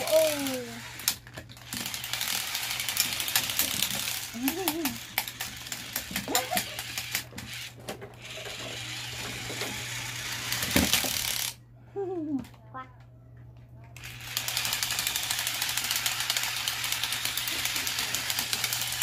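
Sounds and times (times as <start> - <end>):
plastic gears clicking: 0.0 - 11.6, 14.0 - 19.0
toy robot motors whirring: 0.0 - 11.6, 13.9 - 19.0.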